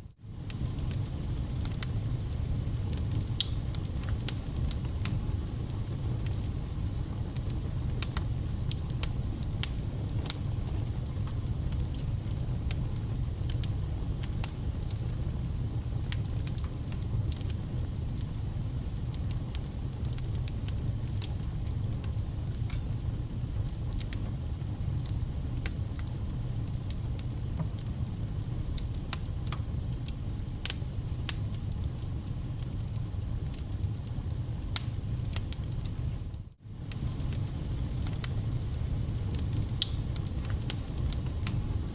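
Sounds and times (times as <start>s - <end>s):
wood fire crackling and popping: 0.3s - 41.9s.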